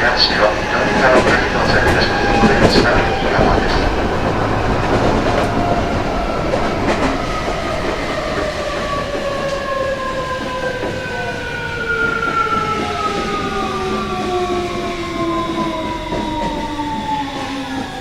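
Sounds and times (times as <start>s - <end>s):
wheel and rail rumble: 0.0s - 18.0s.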